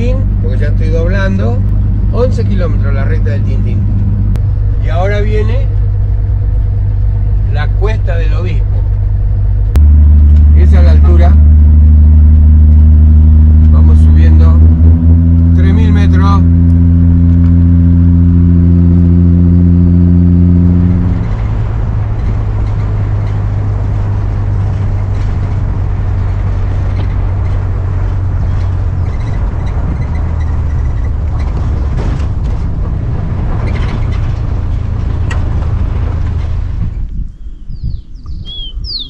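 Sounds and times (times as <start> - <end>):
pickup engine pulling: 0.0 - 37.2
road noise: 0.0 - 39.0.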